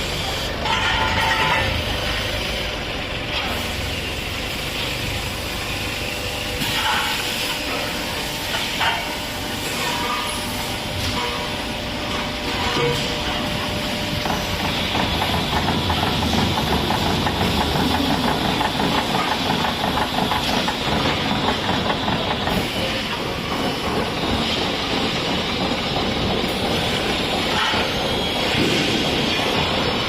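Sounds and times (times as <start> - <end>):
machinery hissing: 0.0 - 30.0.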